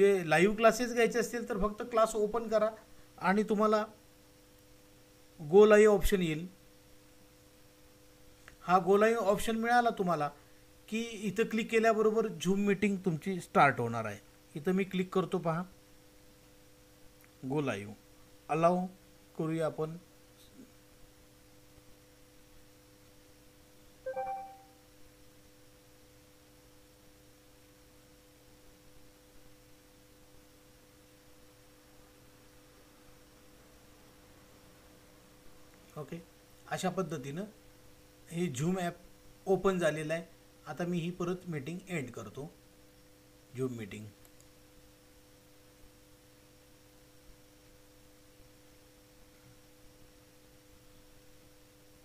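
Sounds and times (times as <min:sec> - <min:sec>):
faint two-tone background hum: 0:00.0 - 0:52.0
room hiss: 0:00.0 - 0:52.0.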